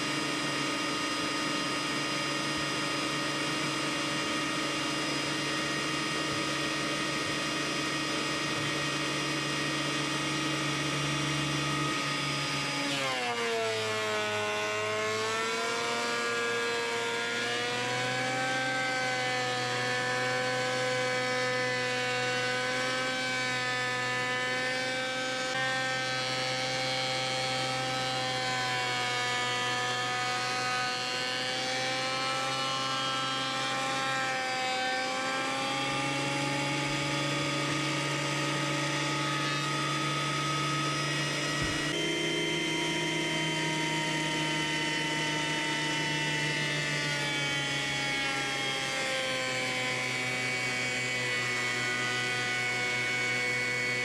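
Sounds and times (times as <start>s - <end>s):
thickness planer whining: 0.0s - 54.0s.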